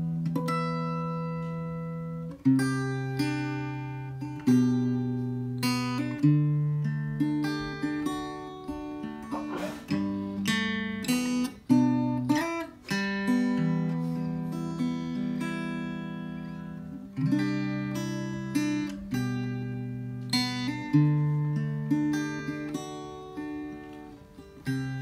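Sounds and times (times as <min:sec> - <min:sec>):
fingerstyle acoustic guitar: 0:00.0 - 0:25.0
strummed guitar chords: 0:00.0 - 0:25.0.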